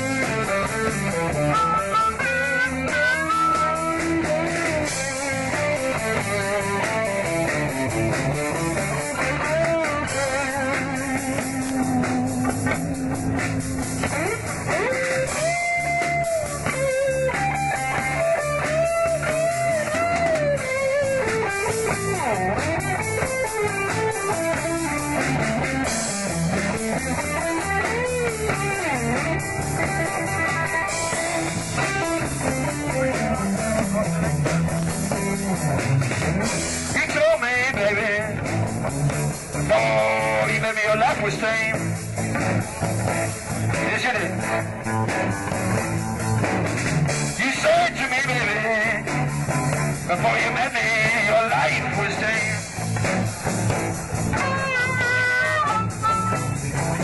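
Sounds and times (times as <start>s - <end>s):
bass guitar: 0.0s - 57.0s
drum kit: 0.0s - 57.0s
electric guitar lead: 0.0s - 57.0s.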